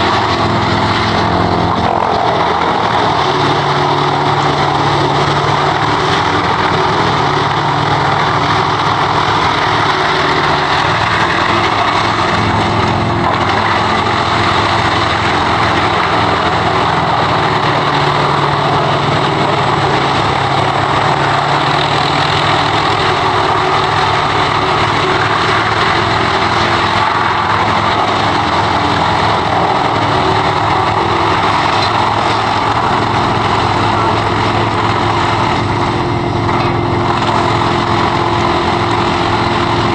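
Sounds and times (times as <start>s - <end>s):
continuous rushing noise: 0.0s - 39.9s
wood chipper engine running: 0.0s - 39.9s.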